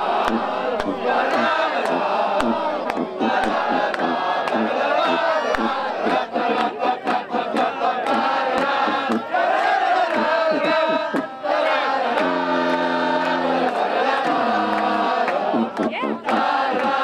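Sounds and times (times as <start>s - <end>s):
crowd singing and chanting: 0.0s - 17.0s.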